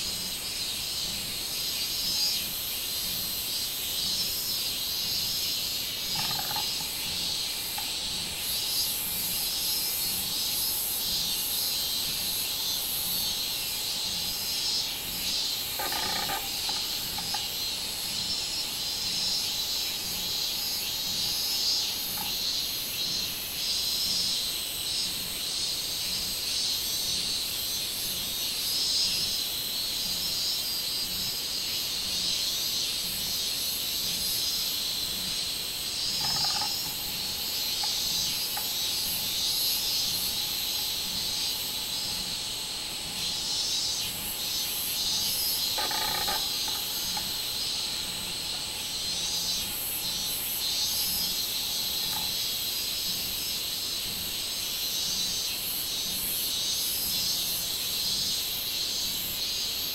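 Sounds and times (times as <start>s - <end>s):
cicadas singing: 0.0s - 59.9s
short lower insect call: 0.0s - 59.9s.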